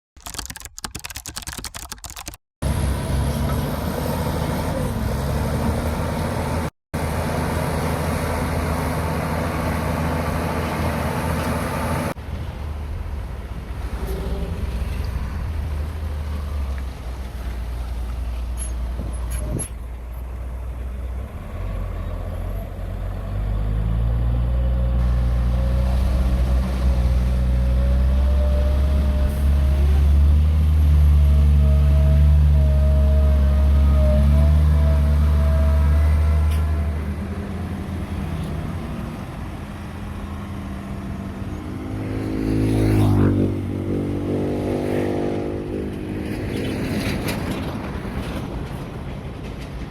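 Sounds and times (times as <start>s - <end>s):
earthmoving machinery diesel engines: 2.6s - 49.9s.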